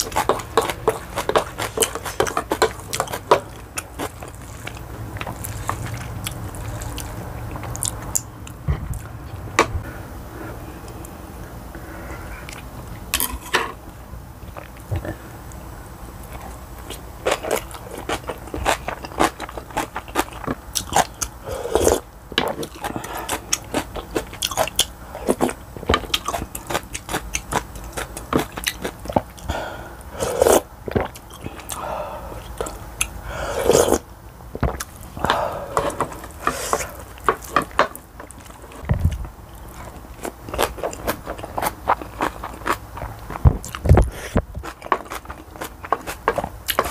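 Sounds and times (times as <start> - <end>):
person chewing food: 0.0 - 9.5, 12.3 - 13.5, 16.2 - 46.9.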